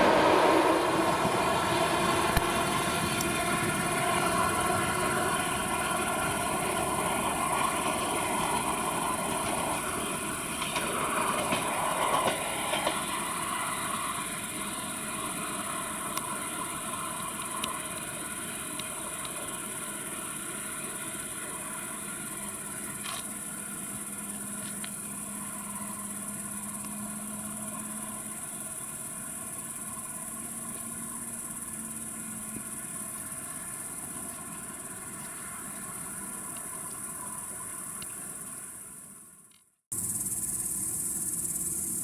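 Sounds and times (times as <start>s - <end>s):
crickets chirring: 0.0s - 42.0s
distant electric train hum: 0.0s - 42.0s.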